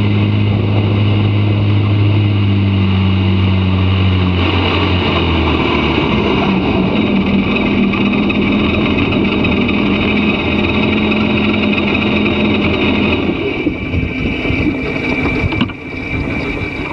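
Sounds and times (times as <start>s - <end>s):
jet ski engine revving high: 0.0s - 16.9s
water and wind noise: 0.0s - 16.9s.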